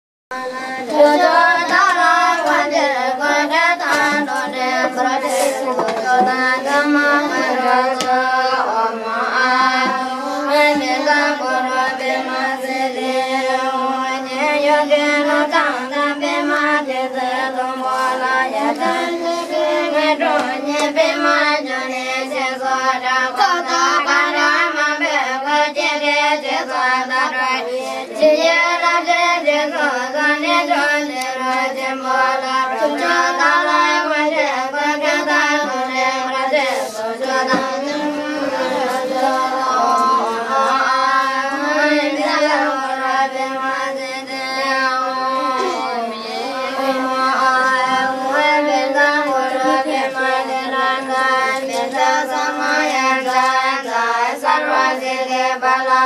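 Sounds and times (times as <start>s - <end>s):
group chanting a prayer: 0.4s - 56.0s.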